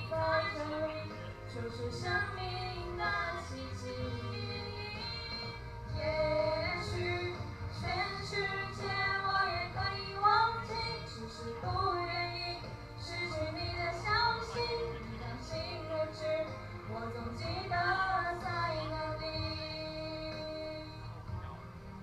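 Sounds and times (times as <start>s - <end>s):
girls singing pop song: 0.0s - 21.3s
accompaniment music: 0.0s - 22.0s.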